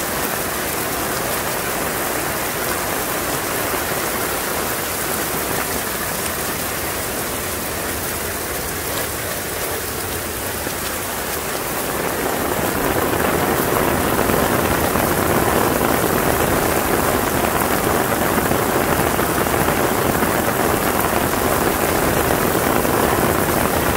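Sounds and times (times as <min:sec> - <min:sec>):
heavy rain on pavement: 0:00.0 - 0:23.9.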